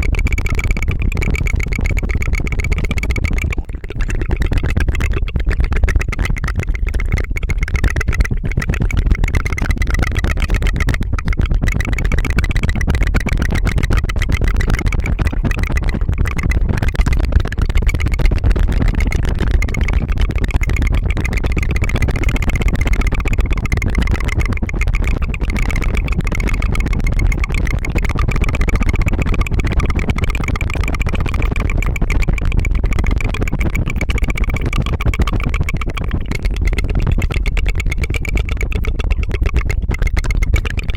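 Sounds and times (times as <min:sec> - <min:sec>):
tongue trill: 0:00.0 - 0:40.9.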